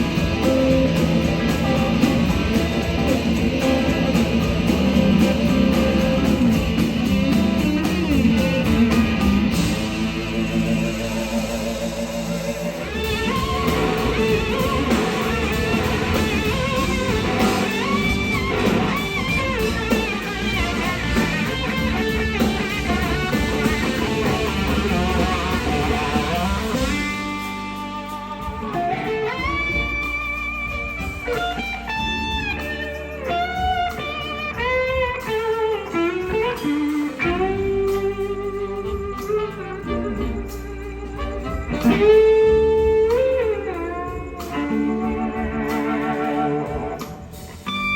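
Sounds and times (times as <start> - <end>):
blues-rock band playing: 0.0 - 47.9
electric slide guitar solo: 0.0 - 47.9.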